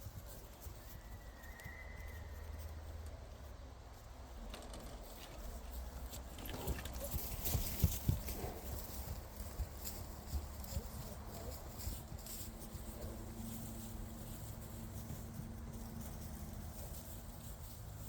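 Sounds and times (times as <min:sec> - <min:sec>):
hoofbeats of running horses: 0:00.0 - 0:18.0.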